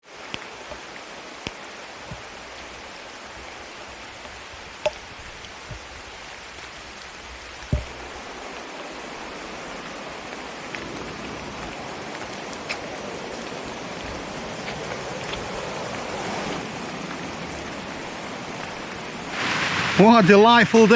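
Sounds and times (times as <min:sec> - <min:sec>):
large raindrops tapping sharply: 0:00.0 - 0:20.7
steady rain: 0:00.0 - 0:20.9.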